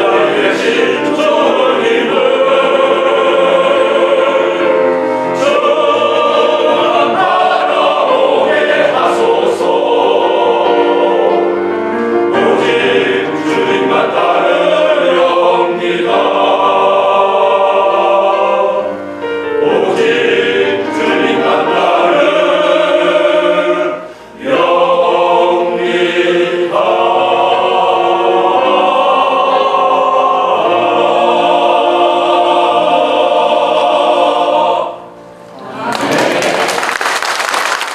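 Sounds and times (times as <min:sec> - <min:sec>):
vocal ensemble singing a hymn: 0:00.0 - 0:36.6.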